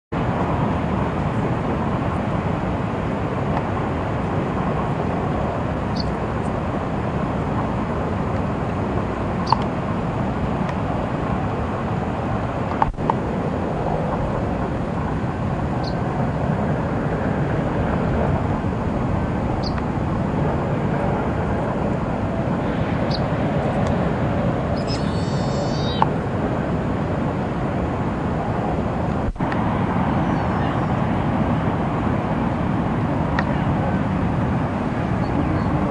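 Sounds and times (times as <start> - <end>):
rushing background noise: 0.2 - 35.9.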